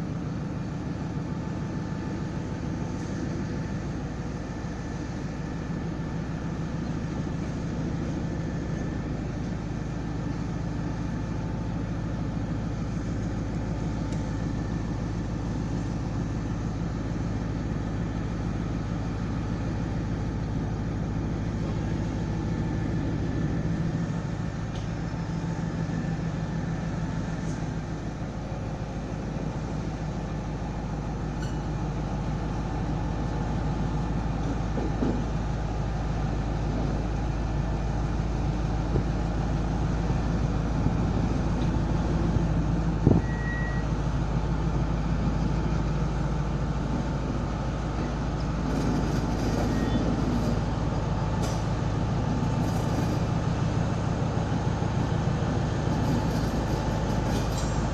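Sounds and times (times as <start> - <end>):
diesel locomotive engine throbbing: 0.0 - 57.9.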